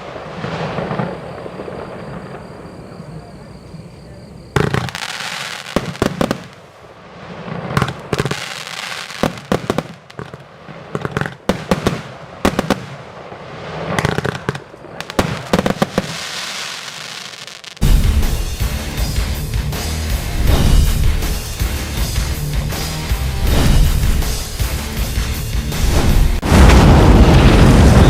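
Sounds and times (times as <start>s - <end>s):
fireworks bangs: 0.0s - 28.0s
fireworks crackling and hiss: 0.0s - 28.0s.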